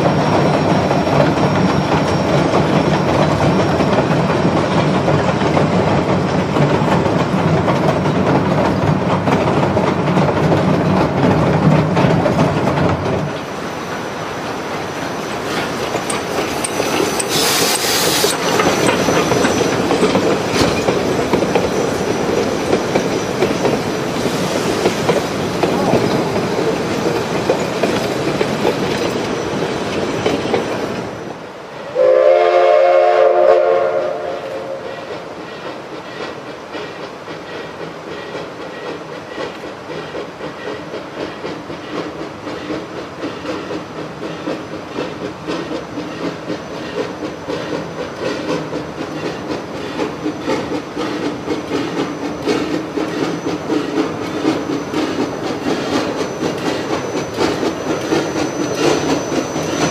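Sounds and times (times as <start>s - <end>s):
train wheels clattering: 0.0s - 31.3s, 32.2s - 59.9s
train cars rumbling: 0.0s - 59.9s.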